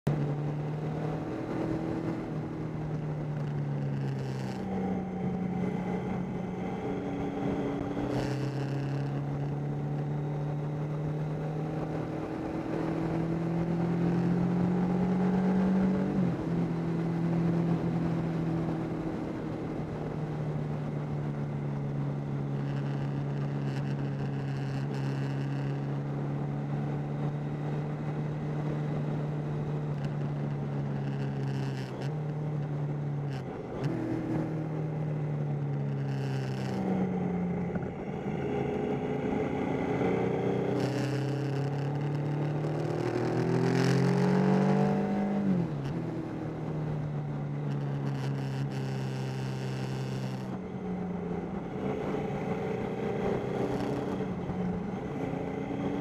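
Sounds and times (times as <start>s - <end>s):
motorcycle engine revving: 0.1s - 56.0s.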